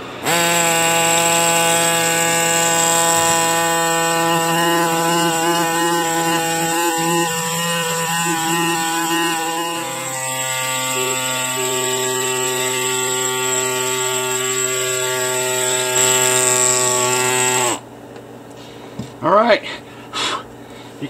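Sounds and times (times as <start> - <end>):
air scribe buzzing: 0.0 - 17.9.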